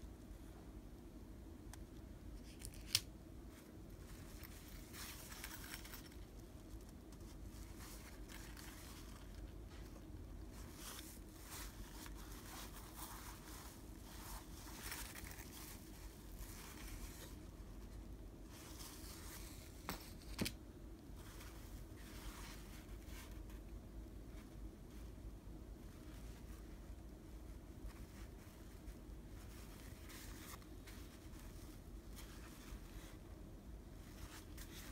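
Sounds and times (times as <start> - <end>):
cloth rustling: 2.4 - 34.9.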